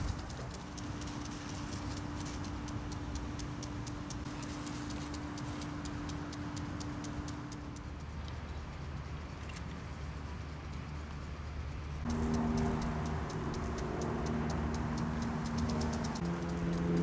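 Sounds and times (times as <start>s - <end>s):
impact sprinkler ticking: 0.0s - 17.0s
steady low hum: 0.0s - 17.0s.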